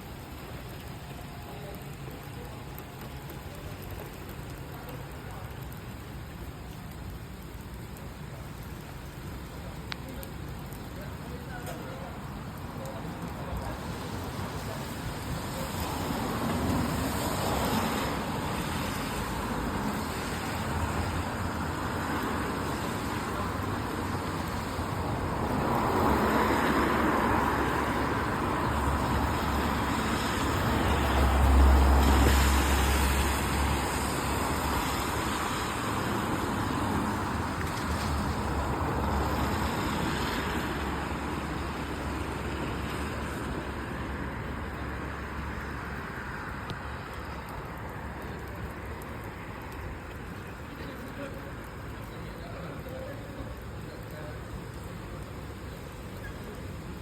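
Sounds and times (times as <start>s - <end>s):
tyres hissing on wet road: 0.0s - 57.0s
vehicles passing: 0.0s - 57.0s.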